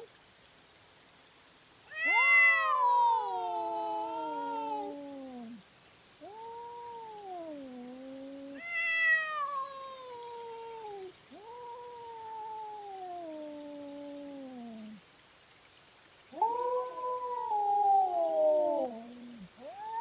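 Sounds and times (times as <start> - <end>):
cats yowling: 1.9 - 5.6, 6.2 - 15.0, 16.3 - 20.0.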